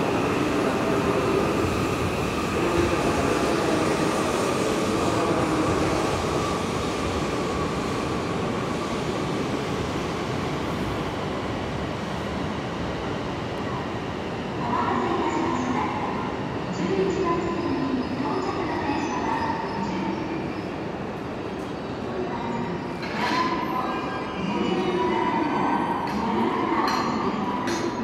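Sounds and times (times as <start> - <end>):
train rolling with running hum: 0.0 - 28.0.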